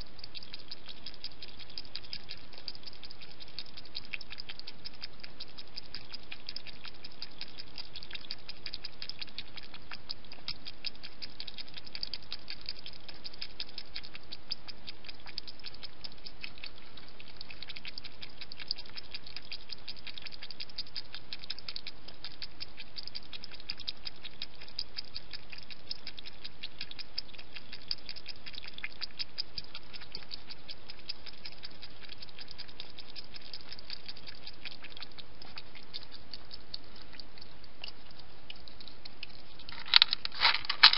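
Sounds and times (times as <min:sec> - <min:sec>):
hedgehog lapping water: 0:00.0 - 0:40.9.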